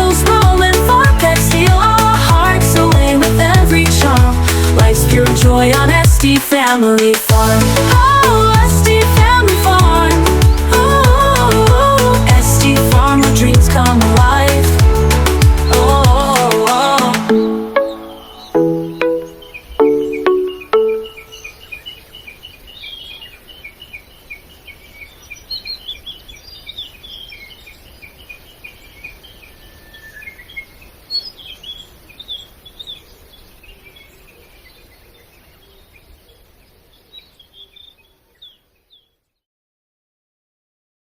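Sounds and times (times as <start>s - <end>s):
birds chirping: 0.0s - 39.1s.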